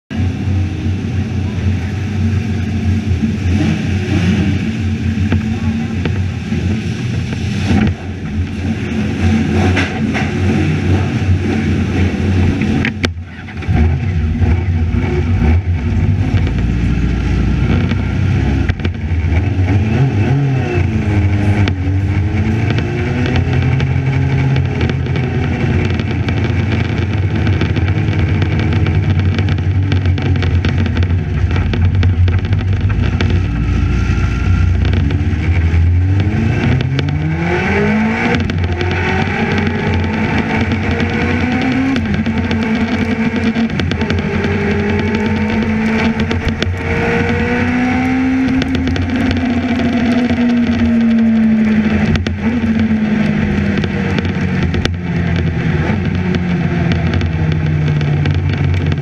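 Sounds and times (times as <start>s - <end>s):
engine running at high revs: 0.1s - 59.0s.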